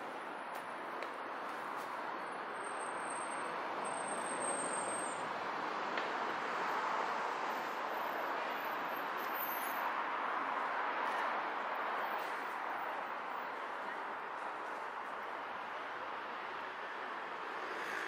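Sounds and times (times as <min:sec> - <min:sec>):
cars passing on city street: 0:00.0 - 0:18.0.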